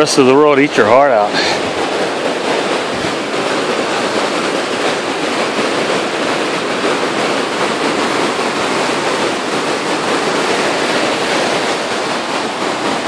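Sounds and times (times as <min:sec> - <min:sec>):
creek rushing over boulders: 0:00.0 - 0:13.0.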